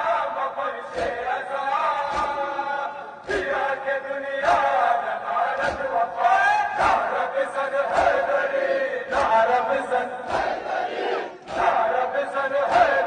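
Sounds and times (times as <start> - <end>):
crowd chanting: 0.0 - 13.0.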